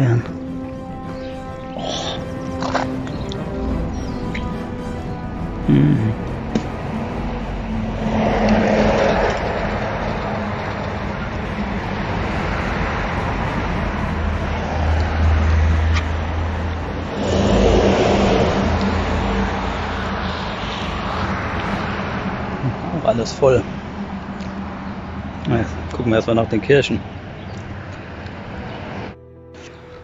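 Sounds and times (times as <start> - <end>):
passing motor traffic: 0.0 - 30.0.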